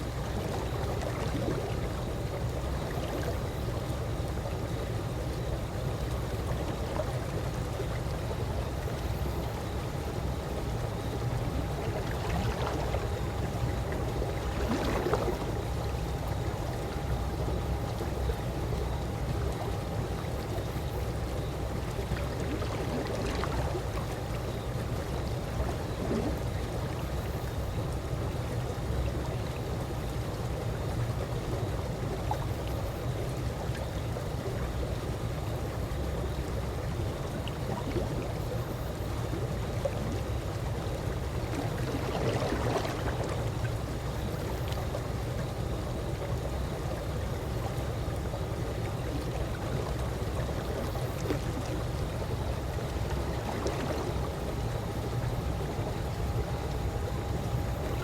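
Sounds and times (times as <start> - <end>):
pool water lapping: 0.0 - 58.0.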